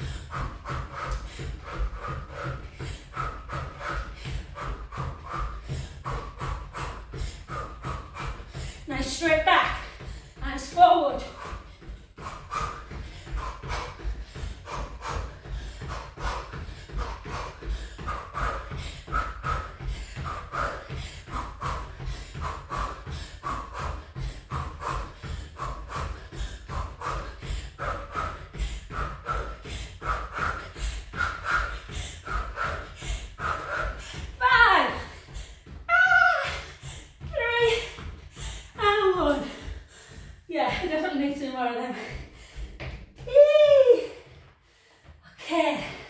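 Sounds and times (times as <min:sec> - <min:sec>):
hard breathing in puffs: 0:00.0 - 0:43.3, 0:44.1 - 0:46.0
footfalls on exercise mat: 0:00.0 - 0:46.0.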